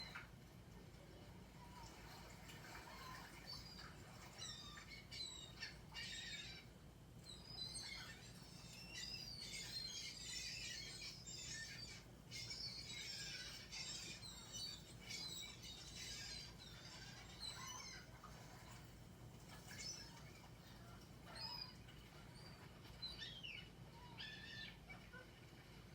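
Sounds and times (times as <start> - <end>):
small birds chirping: 0.0 - 0.4, 1.1 - 25.3
low steady hum: 0.0 - 25.9.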